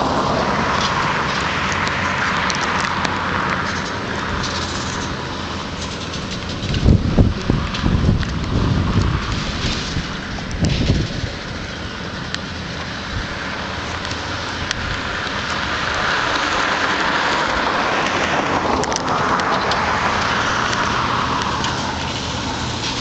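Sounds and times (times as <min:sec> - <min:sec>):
tyres and wind rushing: 0:00.0 - 0:23.0
vehicle engine hum: 0:00.0 - 0:23.0.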